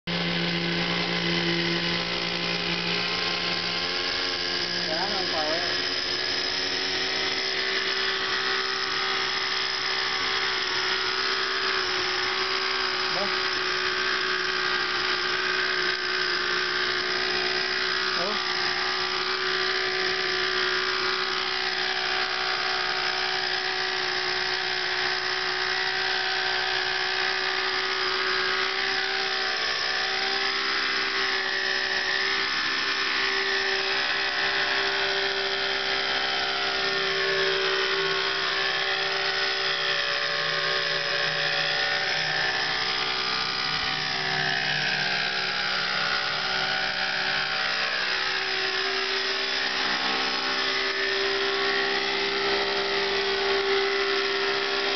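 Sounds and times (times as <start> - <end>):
model helicopter engine whine: 0.1 - 54.9.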